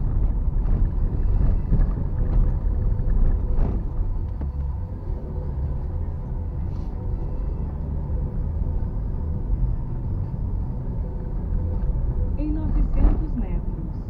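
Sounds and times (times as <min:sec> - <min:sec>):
road noise on asphalt: 0:00.0 - 0:14.0
tyres rumbling on cobblestones: 0:00.0 - 0:14.0.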